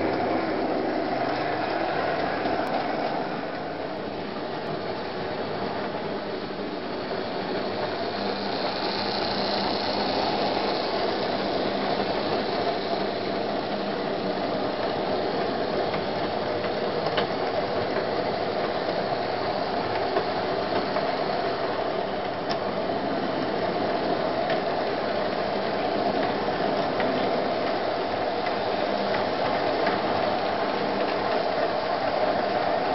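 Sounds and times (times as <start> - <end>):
model train wheels rattling on rails: 0.0 - 32.9.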